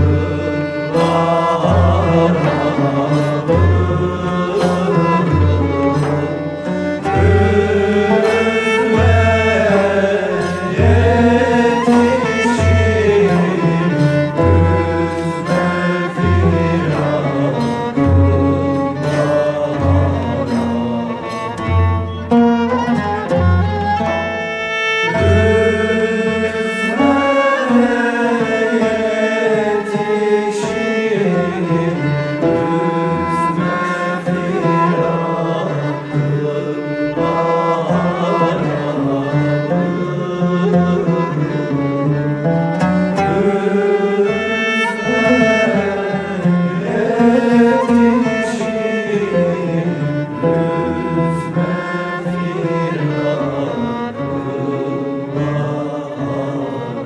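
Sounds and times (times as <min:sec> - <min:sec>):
bowed strings: 0:00.0 - 0:57.0
choir singing: 0:00.0 - 0:57.0.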